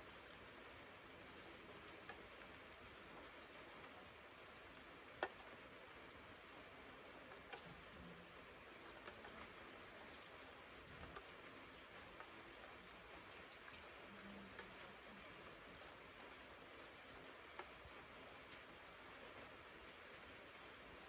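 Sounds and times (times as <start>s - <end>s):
light rain patter: 0.0s - 21.0s
water drips ticking: 0.0s - 21.0s.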